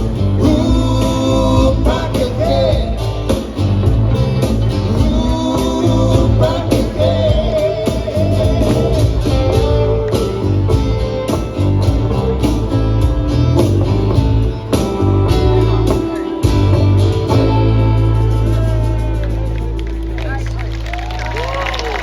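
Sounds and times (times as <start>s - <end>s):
acoustic band playing: 0.0s - 22.0s.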